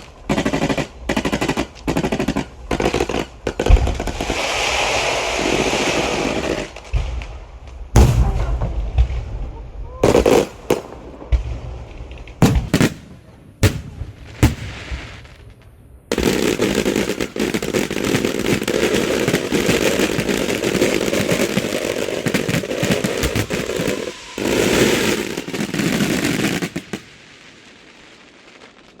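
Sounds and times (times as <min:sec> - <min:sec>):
firework bangs: 0:00.0 - 0:29.0
rapid firework crackle: 0:00.0 - 0:29.0.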